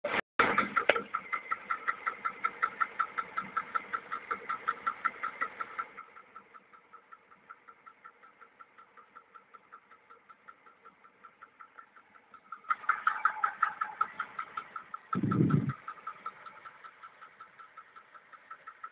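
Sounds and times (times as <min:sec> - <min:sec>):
car engine idling: 0:00.1 - 0:18.9
engine knocking tick: 0:00.1 - 0:18.9.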